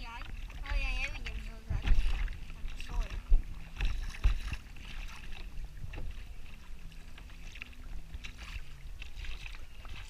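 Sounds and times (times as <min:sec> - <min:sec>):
paddle splashing water: 0:00.0 - 0:10.0
steady low rumble: 0:00.0 - 0:10.0.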